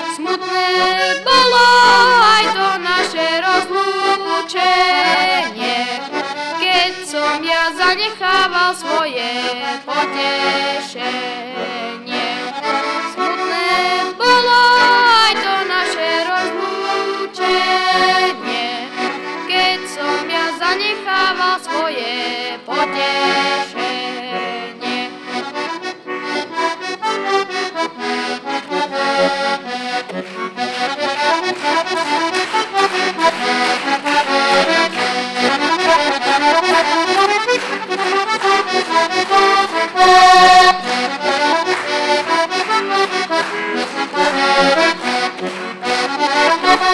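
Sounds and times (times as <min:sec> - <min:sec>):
solo accordion playing: 0:00.0 - 0:46.9.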